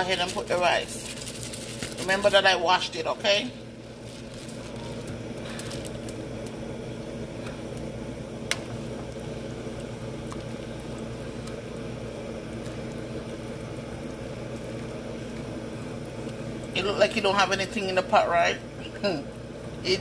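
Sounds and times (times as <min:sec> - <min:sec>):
water boiling in pot: 0:00.0 - 0:20.0.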